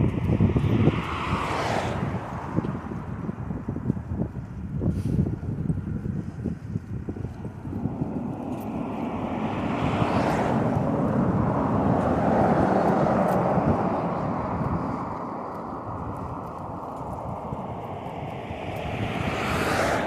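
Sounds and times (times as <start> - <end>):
bicycle rumble and wind noise: 0.0 - 20.0
motor vehicle passing: 0.0 - 20.0.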